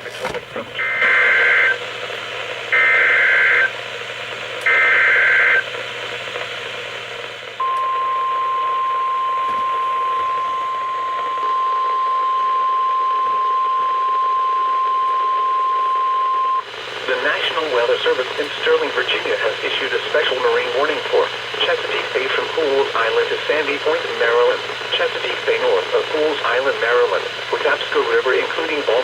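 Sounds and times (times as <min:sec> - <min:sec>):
radio hiss: 0:00.0 - 0:29.0
steady warning alarm tone: 0:00.8 - 0:02.0, 0:02.6 - 0:03.8, 0:04.6 - 0:29.0.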